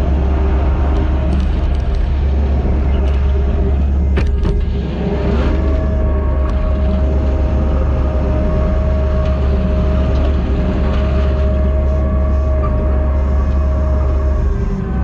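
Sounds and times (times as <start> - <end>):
heavy machinery diesel engine drone: 0.0 - 15.0.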